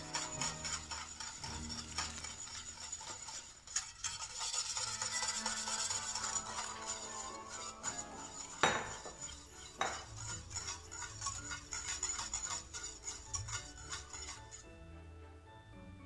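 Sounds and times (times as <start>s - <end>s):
whisk clicking against pan: 0.0s - 14.6s
whisk knocking on pan: 0.0s - 14.6s.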